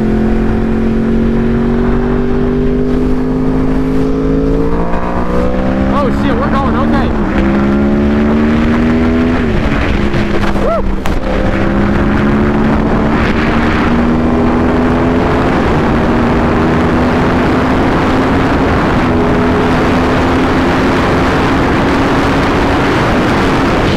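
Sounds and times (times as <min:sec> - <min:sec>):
motorcycle engine accelerating: 0:00.0 - 0:23.9
wind rush: 0:00.0 - 0:23.9.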